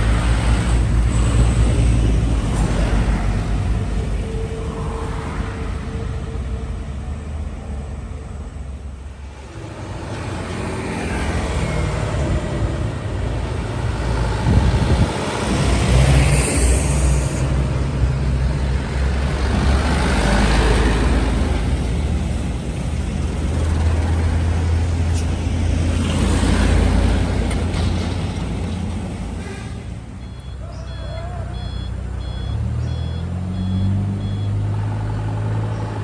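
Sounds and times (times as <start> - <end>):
diesel trucks passing: 0.0 - 36.0.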